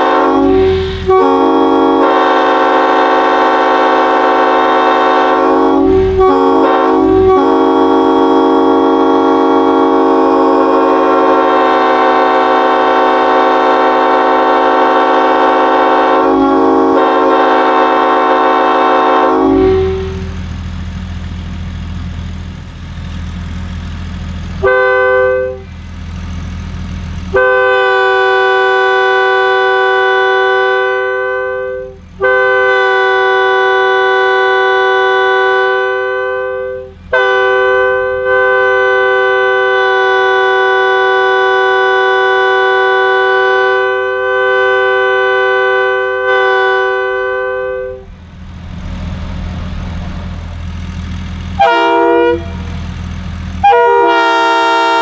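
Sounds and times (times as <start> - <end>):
locomotive air horn blasts: 0.0 - 20.5, 24.6 - 25.8, 27.3 - 48.2, 51.4 - 55.0.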